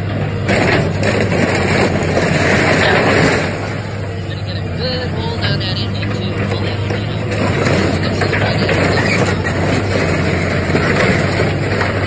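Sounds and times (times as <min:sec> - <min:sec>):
excavator diesel engine running: 0:00.0 - 0:12.0
metal crunching and scraping: 0:00.0 - 0:12.0.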